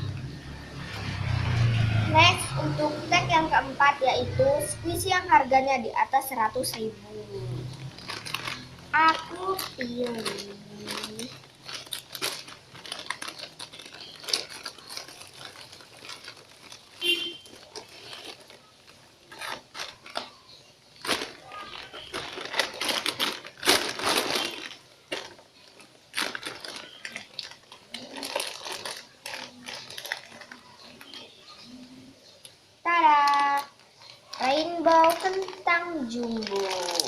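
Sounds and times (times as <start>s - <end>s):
plastic packaging crinkling: 4.3s - 37.0s.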